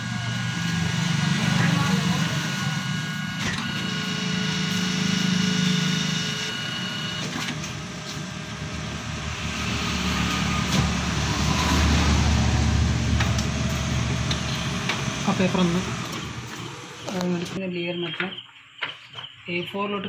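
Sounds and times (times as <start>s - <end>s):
copier motor whir and hum: 0.0s - 17.8s
thin high whine: 0.0s - 17.8s.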